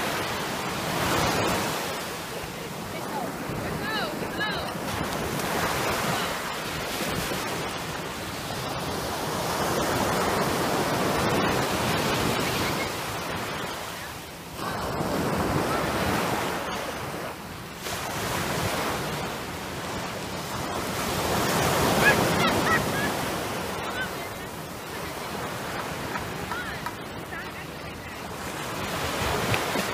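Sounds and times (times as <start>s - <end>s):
waves washing on sandy beach: 0.0s - 29.9s.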